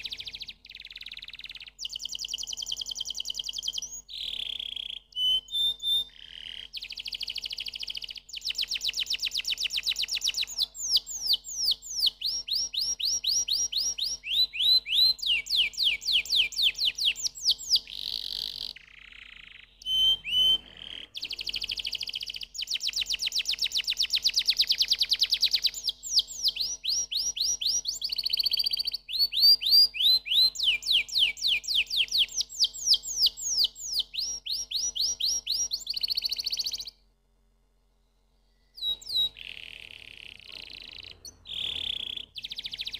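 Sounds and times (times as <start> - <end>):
canary singing trills: 0.0 - 37.0, 38.4 - 42.9.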